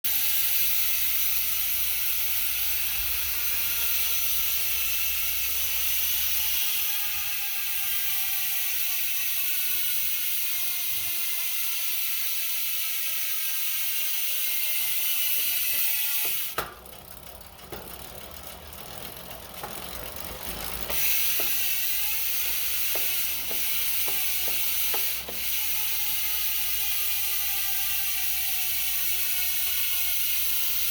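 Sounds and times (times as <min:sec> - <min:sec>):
freehub ratchet buzzing: 0:00.1 - 0:30.9.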